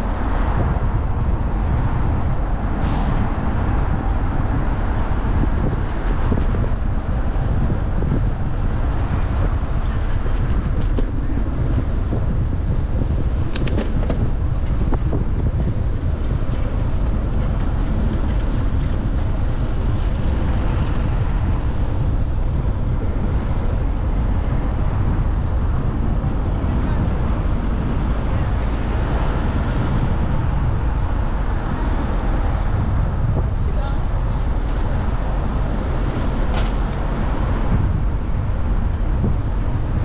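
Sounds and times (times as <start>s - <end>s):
city road traffic: 0.0s - 40.0s
wind rumble on microphone: 0.0s - 40.0s.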